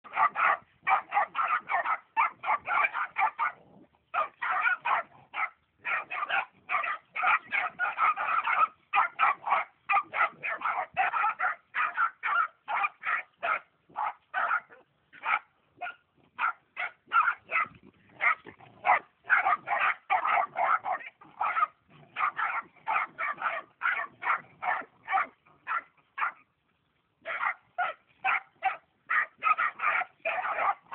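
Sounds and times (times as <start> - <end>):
puppies yipping and barking: 0.0 - 26.5, 27.2 - 30.9.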